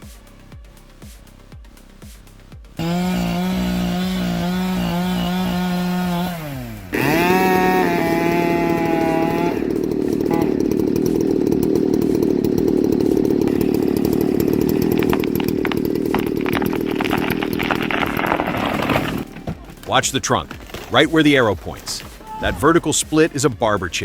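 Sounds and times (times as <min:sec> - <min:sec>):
wood splitting cracks: 0:02.8 - 0:22.7
chainsaw cutting: 0:02.8 - 0:23.5.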